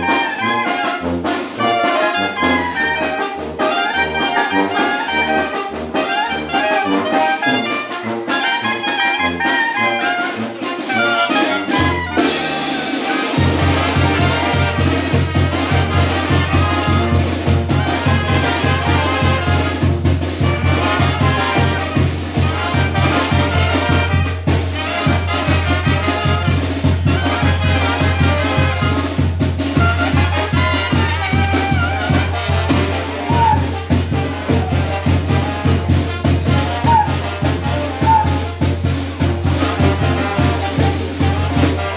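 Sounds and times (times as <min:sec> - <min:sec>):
clarinets and trumpets melody: 0:00.0 - 0:41.9
trombones: 0:00.0 - 0:41.9.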